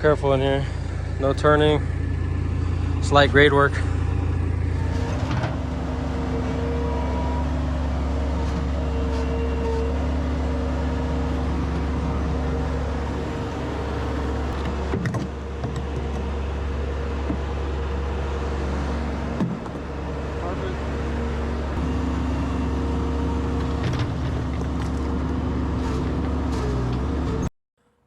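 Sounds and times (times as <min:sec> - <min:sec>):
diesel engine running: 0:00.0 - 0:27.5.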